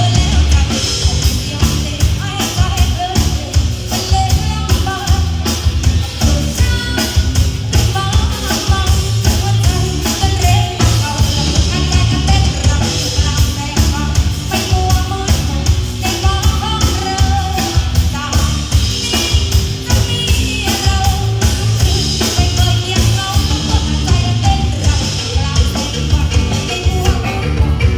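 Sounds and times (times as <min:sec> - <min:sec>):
drum kit beat: 0:00.0 - 0:27.9
heavy bass: 0:00.0 - 0:27.9
stepping melody line: 0:00.0 - 0:27.9.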